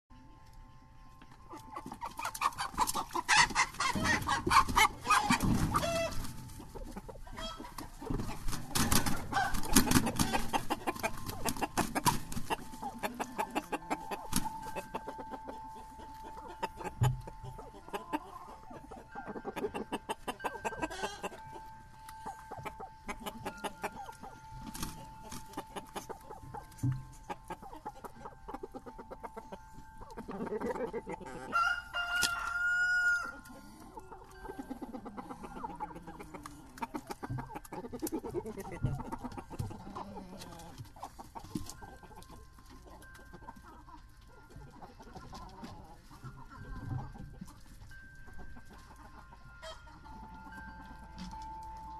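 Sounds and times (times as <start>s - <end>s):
chickens clucking: 0.1s - 51.9s.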